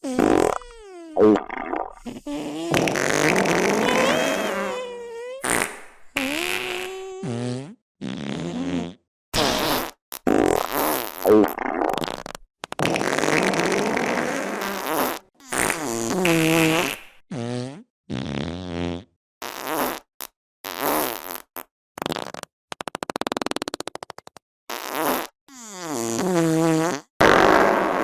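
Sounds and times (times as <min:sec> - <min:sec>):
fart sound effects: 0:00.0 - 0:24.0, 0:24.7 - 0:28.0.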